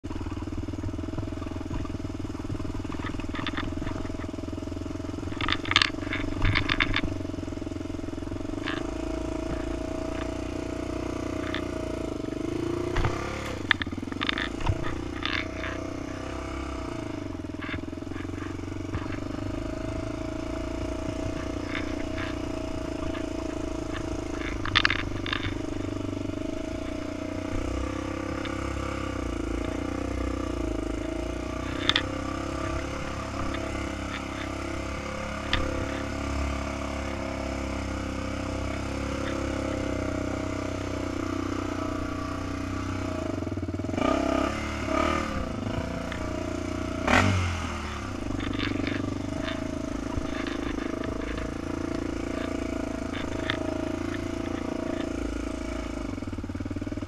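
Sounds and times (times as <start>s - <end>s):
quad engine running: 0.0s - 57.0s
rattling clatter over rough ground: 0.0s - 57.0s.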